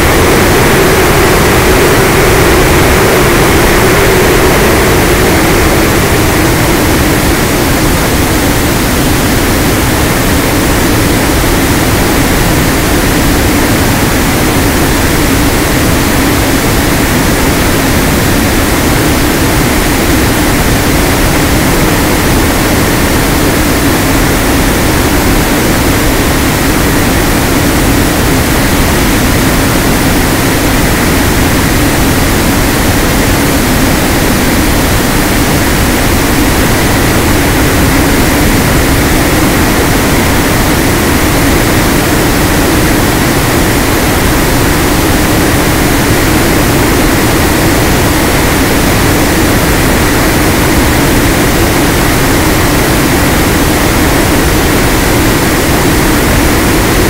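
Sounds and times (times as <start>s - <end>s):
propeller drone: 0.0s - 57.0s
wind rushing: 0.0s - 57.0s.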